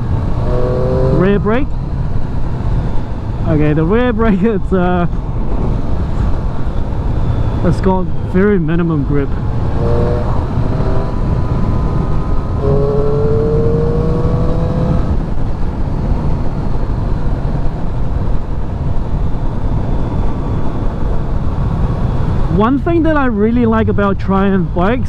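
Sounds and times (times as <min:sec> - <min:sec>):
motorcycle engine accelerating: 0:00.0 - 0:04.4, 0:05.2 - 0:25.0
wind and road noise: 0:00.0 - 0:25.0.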